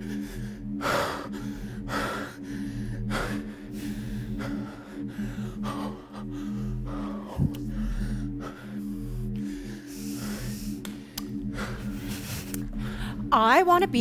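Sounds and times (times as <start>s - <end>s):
man breathing heavily: 0.0s - 13.3s
steady low hum: 0.0s - 14.0s.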